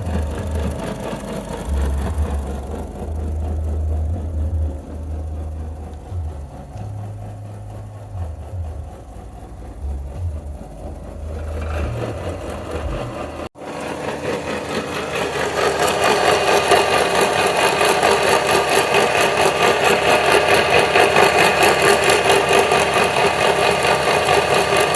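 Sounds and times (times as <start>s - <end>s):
car engine idling: 0.0s - 24.9s
pulsing mechanical grinding: 0.0s - 24.9s.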